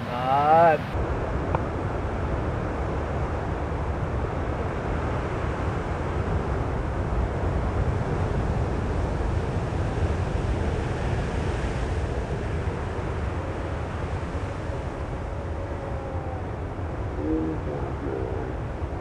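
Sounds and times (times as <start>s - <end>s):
ocean surf breaking: 0.0s - 1.0s, 4.7s - 19.0s
wind buffeting the microphone: 0.6s - 19.0s.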